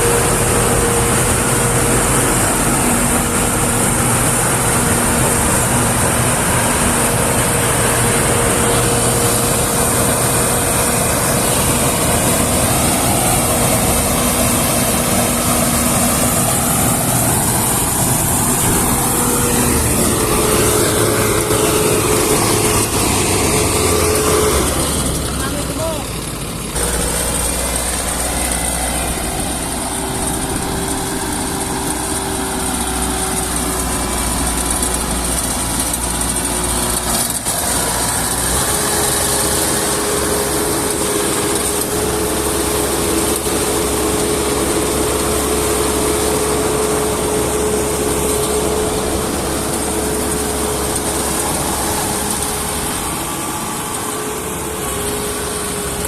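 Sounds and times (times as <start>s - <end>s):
combine harvester engine running: 0.0s - 56.0s
constant machine whine: 0.0s - 56.0s.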